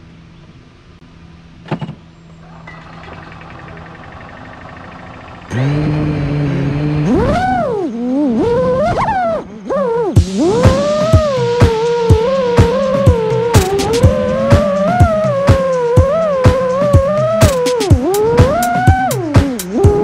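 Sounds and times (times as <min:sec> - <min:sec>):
drone propellers whirring: 0:02.4 - 0:20.0.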